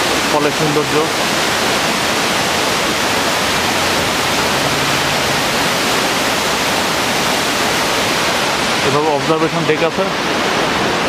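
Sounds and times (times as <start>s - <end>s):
waterfall pouring and splashing: 0.0s - 11.0s.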